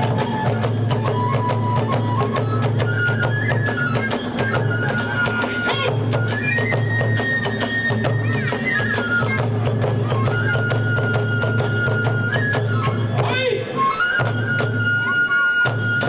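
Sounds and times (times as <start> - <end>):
bamboo flute long high notes: 0.0 - 16.0.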